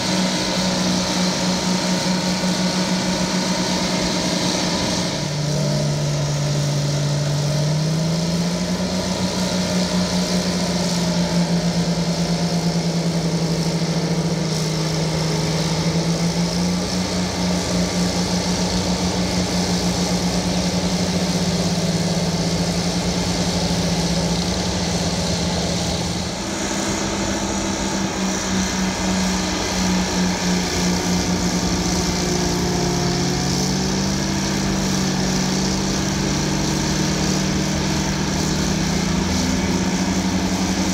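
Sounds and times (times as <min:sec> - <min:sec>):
bulldozer diesel engines under load: 0:00.0 - 0:40.9.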